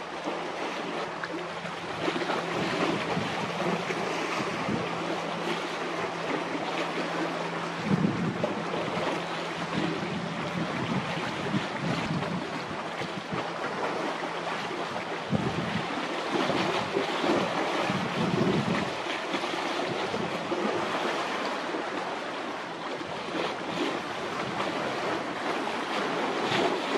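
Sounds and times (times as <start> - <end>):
choppy sea: 0.0 - 26.9
wind buffeting microphone: 1.5 - 21.2, 23.0 - 26.9.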